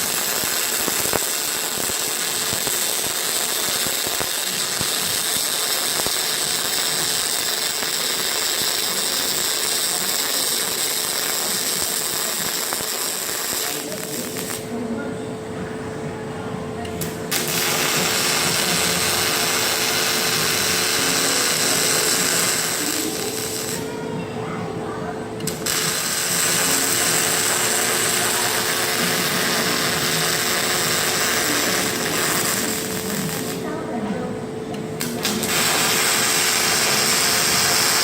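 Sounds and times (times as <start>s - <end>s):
welding arc hiss: 0.0s - 14.7s, 17.0s - 23.9s, 25.4s - 33.7s, 34.9s - 38.0s
machine hum: 0.0s - 38.0s.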